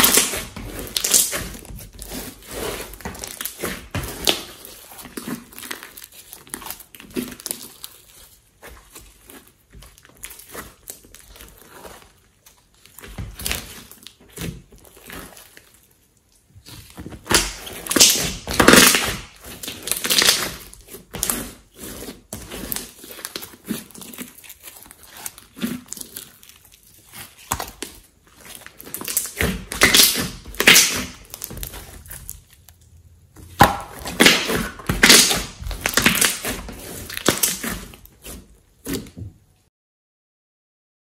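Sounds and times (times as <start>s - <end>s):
slime squelching: 0.0s - 39.6s.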